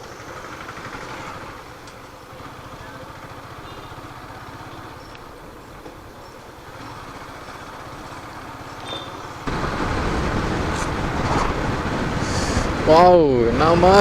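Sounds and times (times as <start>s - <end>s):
motorcycle engine rumble: 0.0s - 14.0s
road noise: 0.0s - 14.0s.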